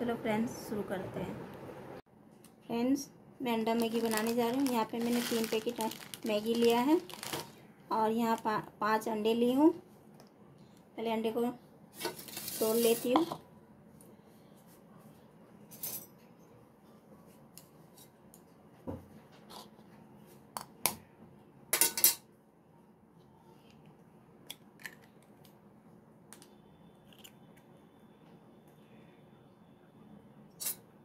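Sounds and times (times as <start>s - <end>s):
faint room hum: 0.0s - 31.0s.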